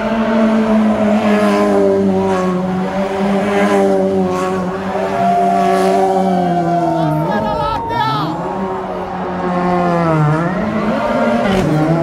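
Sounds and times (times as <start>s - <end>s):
car engine at high revs: 0.0s - 7.6s, 8.2s - 12.0s.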